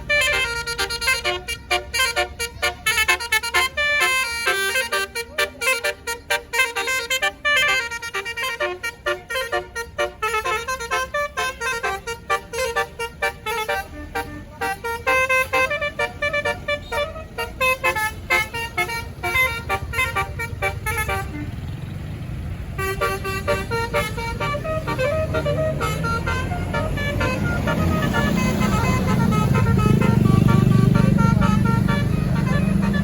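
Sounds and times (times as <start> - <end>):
bus melody horn playing short notes: 0.0 - 21.7, 22.7 - 33.0
bus engine rumble: 0.0 - 33.0.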